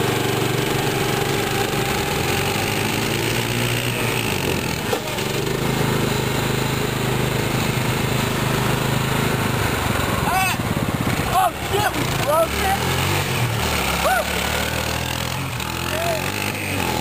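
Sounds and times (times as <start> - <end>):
small engines running under load: 0.0 - 17.0.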